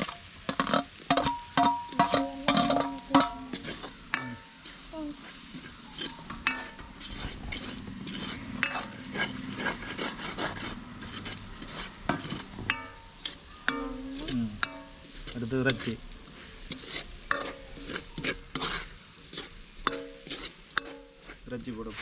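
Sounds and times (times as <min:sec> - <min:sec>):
frying sizzle: 0:00.0 - 0:22.0
metal spatula scraping a wok: 0:00.0 - 0:22.0.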